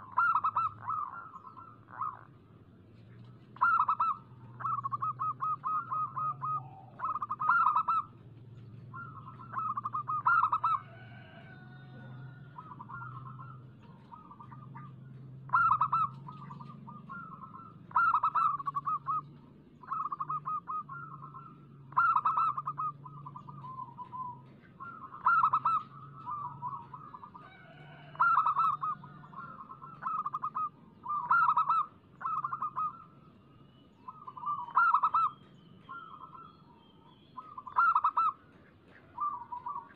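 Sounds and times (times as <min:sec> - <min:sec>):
doves cooing in trilled phrases: 0:00.0 - 0:39.9.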